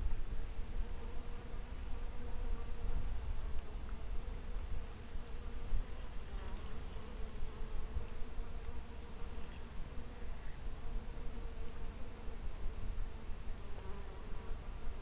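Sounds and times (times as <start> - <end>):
insect buzzing: 0.0 - 15.0.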